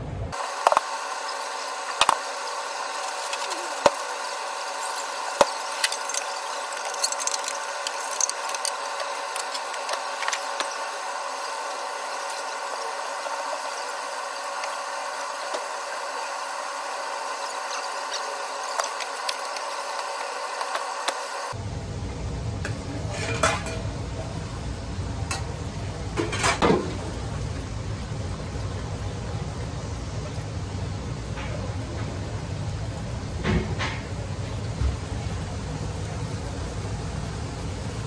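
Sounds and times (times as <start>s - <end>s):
gas burner hum: 0.0s - 38.0s
food simmering in a wok: 0.3s - 38.0s.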